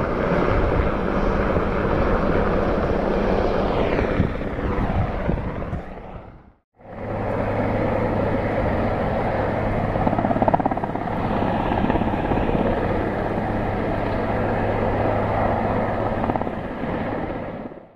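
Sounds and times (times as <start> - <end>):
helicopter rotor beating: 0.0 - 17.9
turbine engines running: 0.0 - 17.9.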